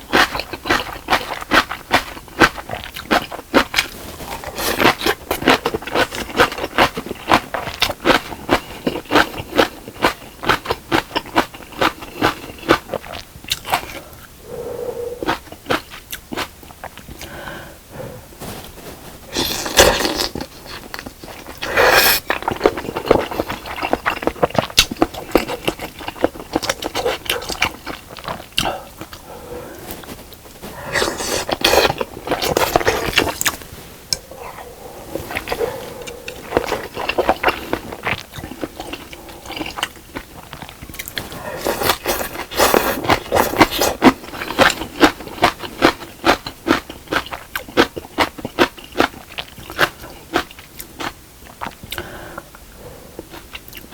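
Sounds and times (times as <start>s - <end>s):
wet chewing and crunching: 0.0s - 17.3s, 18.4s - 53.9s.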